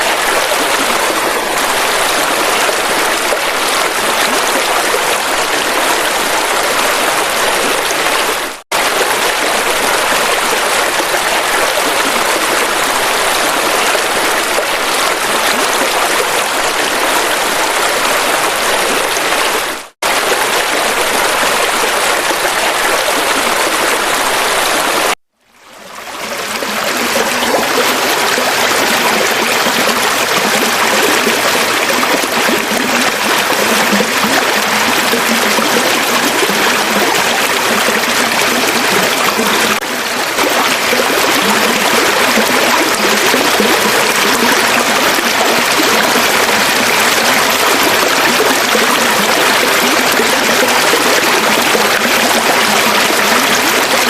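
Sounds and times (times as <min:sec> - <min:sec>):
river water rushing: 0:00.0 - 0:25.2, 0:26.0 - 0:54.0.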